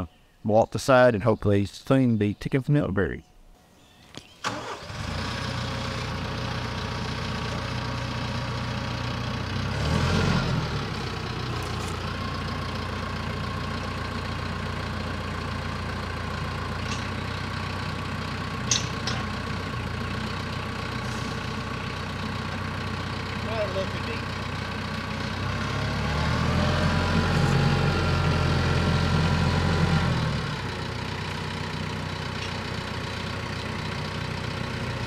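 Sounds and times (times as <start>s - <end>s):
tractor diesel engine running: 4.4s - 35.0s.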